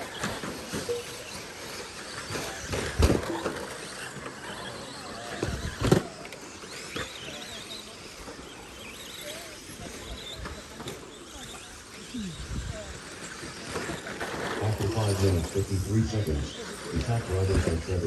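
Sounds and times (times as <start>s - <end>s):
small motors whining: 0.0s - 18.0s
tyres on dirt: 0.0s - 18.0s.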